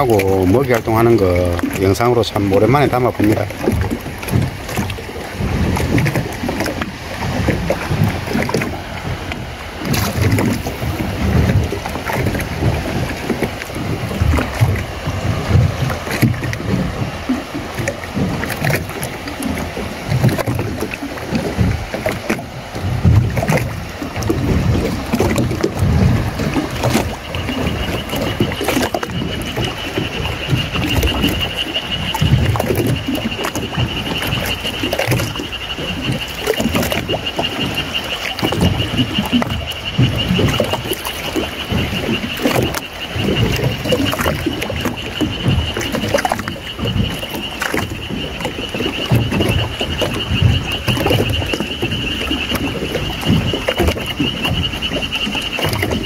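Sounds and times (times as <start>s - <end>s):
water lapping against boat hull: 0.0s - 56.0s.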